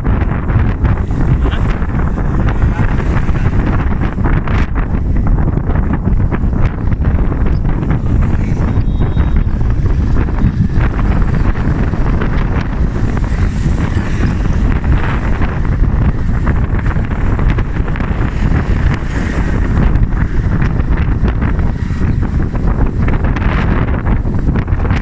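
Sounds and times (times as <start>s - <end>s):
vehicle rumble: 0.0s - 25.0s
wind buffeting microphone: 0.0s - 25.0s.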